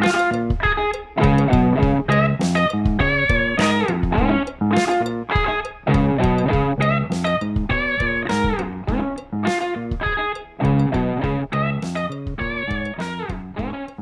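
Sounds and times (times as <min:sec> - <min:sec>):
bass guitar: 0:00.0 - 0:14.0
funk electric guitar riff: 0:00.0 - 0:14.0
programmed drums: 0:00.0 - 0:14.0.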